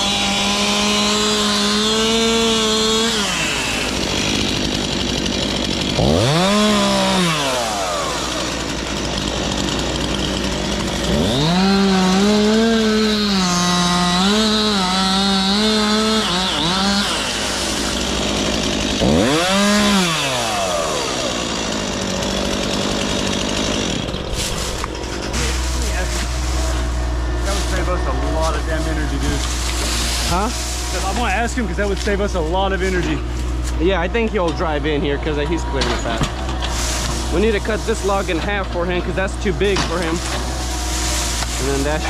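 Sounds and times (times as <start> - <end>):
chainsaw idling and revving: 0.0 - 42.0.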